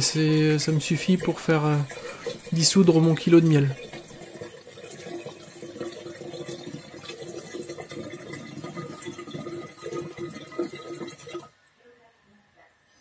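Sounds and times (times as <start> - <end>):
boiling water bubbling and crackling: 0.0 - 11.5.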